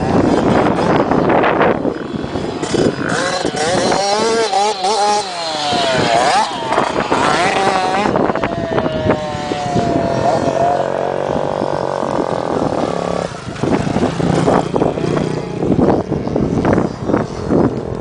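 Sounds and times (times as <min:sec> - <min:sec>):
choppy gusty noise: 0:00.0 - 0:18.0
dirt bike engine revving: 0:00.0 - 0:18.0.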